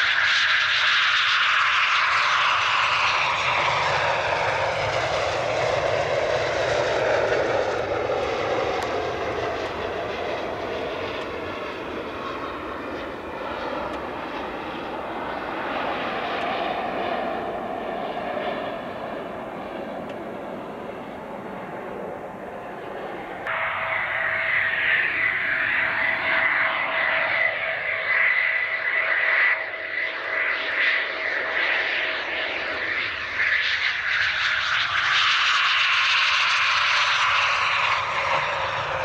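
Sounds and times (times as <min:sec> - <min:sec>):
jet engines whining: 0:00.0 - 0:39.0.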